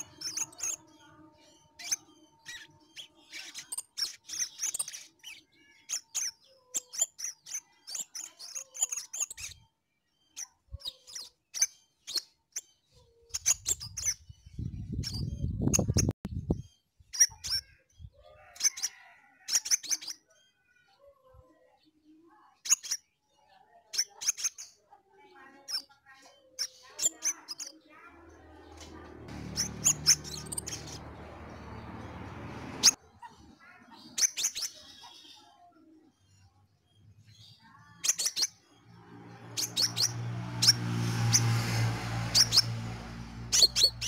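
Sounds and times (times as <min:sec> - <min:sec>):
bird chirping and trilling: 0:00.0 - 0:44.0.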